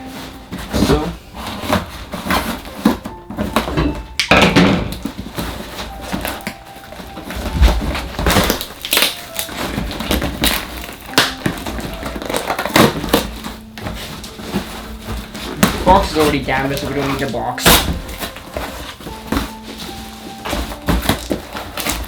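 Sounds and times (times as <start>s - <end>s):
cardboard being torn open: 0.0s - 3.8s, 4.9s - 22.0s.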